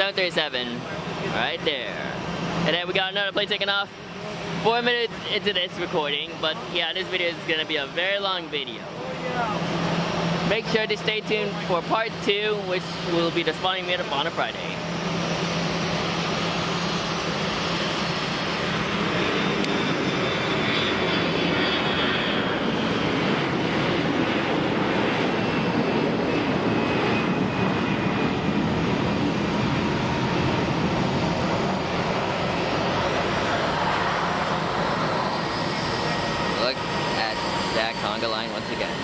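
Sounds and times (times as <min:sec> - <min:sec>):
high engine whine: 0:00.0 - 0:39.0
jet engines roaring: 0:00.0 - 0:39.0.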